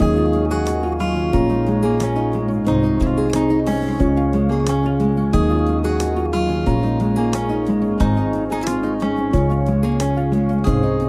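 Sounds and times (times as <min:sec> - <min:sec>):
bass line: 0:00.0 - 0:11.0
strummed acoustic guitar: 0:00.0 - 0:11.0.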